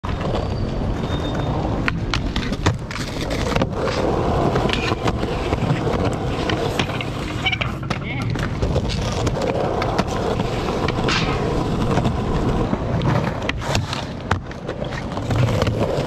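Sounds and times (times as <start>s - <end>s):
skateboard clacks: 0.0s - 16.0s
skateboard wheels rolling on concrete: 0.0s - 16.0s
skateboard grinding metal bar: 0.2s - 16.0s.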